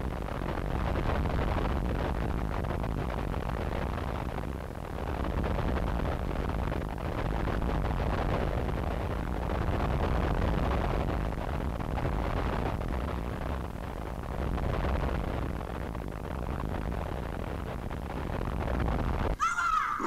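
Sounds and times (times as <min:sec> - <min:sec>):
dense distorted noise: 0:00.0 - 0:20.0.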